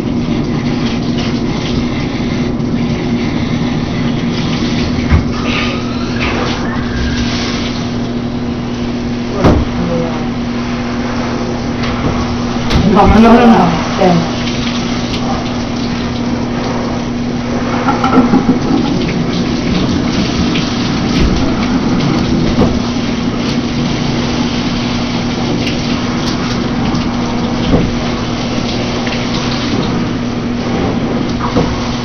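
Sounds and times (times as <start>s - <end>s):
knocks and splashes: 0.0s - 2.0s, 4.0s - 9.9s, 11.6s - 32.0s
low hum: 0.0s - 31.9s
water running into bathtub: 0.0s - 32.0s.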